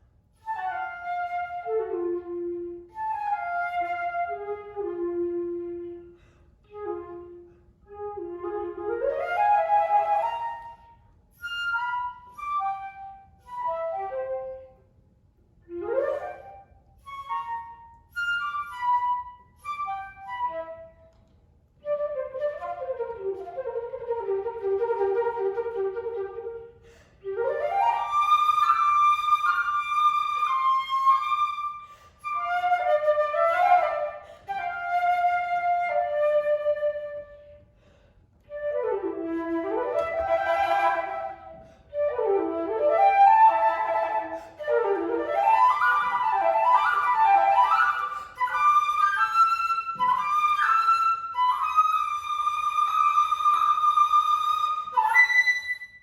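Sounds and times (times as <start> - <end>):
solo flute melody: 0.0 - 56.0.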